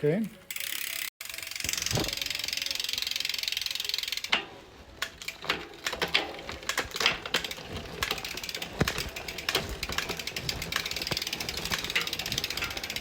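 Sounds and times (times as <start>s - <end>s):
bike chain and hub whirring: 0.3s - 13.0s
derailleur and freewheel clicking: 0.4s - 13.0s.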